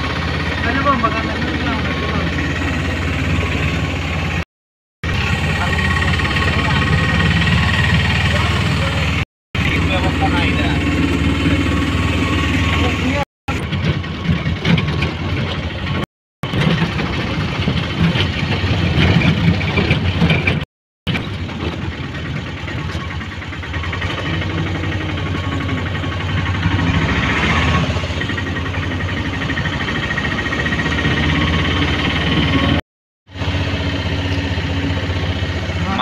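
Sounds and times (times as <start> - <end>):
auto-rickshaw engine running: 0.0 - 36.0.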